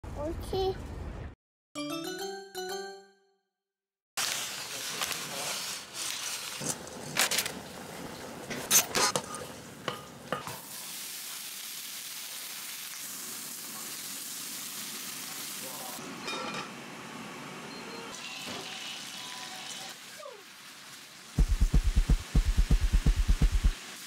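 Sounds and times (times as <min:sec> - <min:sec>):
beef sizzling in a wok: 0:04.2 - 0:24.0.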